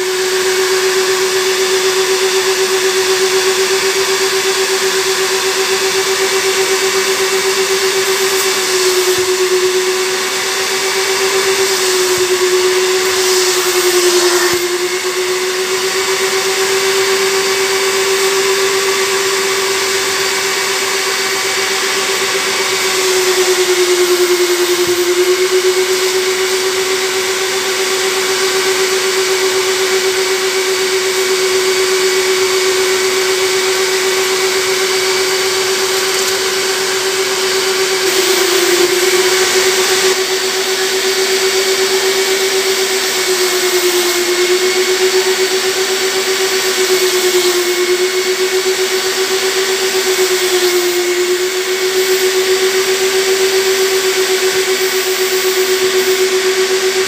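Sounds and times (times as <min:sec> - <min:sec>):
vacuum motor whining: 0:00.0 - 0:57.0.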